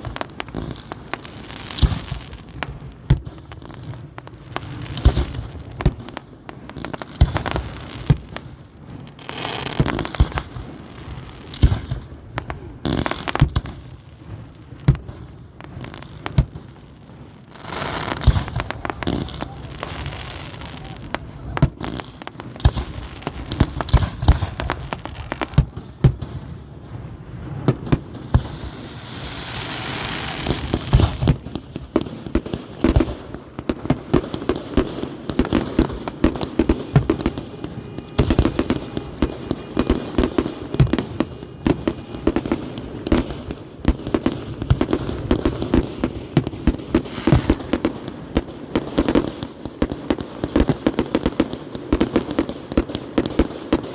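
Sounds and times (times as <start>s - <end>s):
fireworks cracks and booms: 0.0s - 53.9s.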